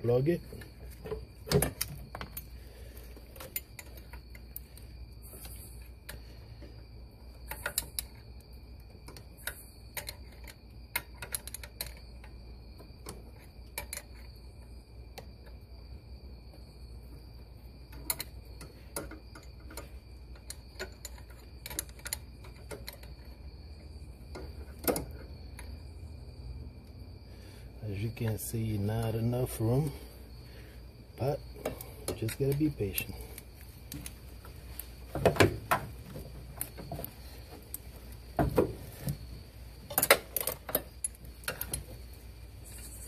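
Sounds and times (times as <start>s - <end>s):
faint high-pitched whine: 0.0s - 43.0s.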